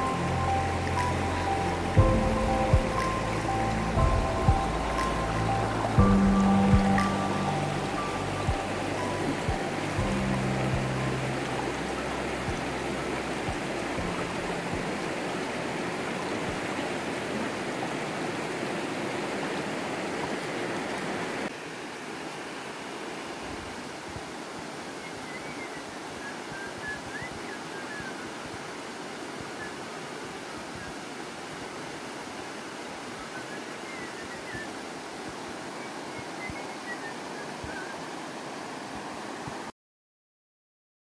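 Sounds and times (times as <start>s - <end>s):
river flowing over rocks: 0.0s - 39.7s.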